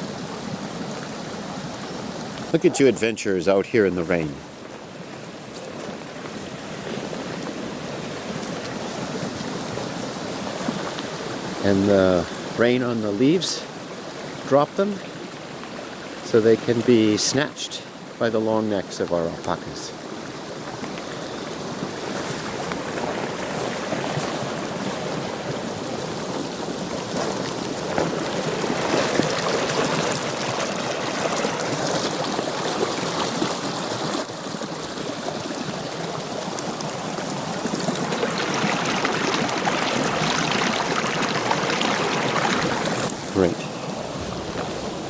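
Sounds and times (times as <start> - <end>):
running water: 0.0 - 45.0.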